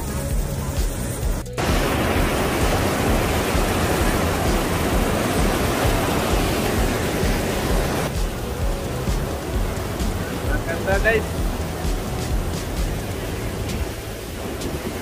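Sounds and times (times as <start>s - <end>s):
white water rushing: 0.0s - 15.0s.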